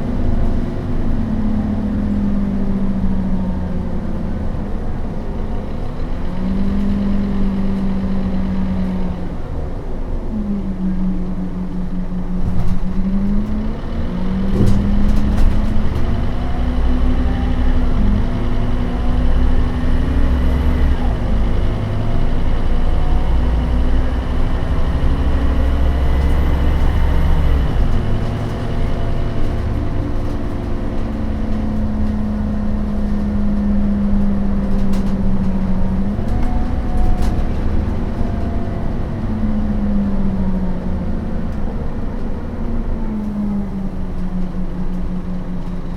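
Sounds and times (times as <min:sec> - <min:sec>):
bus diesel engine rumbling: 0:00.0 - 0:45.9.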